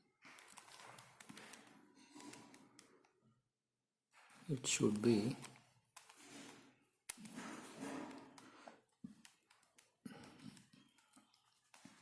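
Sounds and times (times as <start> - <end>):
light rustling of puzzle: 0.1 - 12.0.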